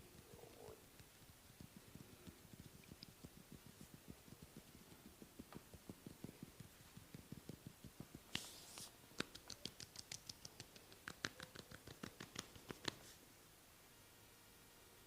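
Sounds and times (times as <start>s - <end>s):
massage taps on skin: 0.0s - 13.2s.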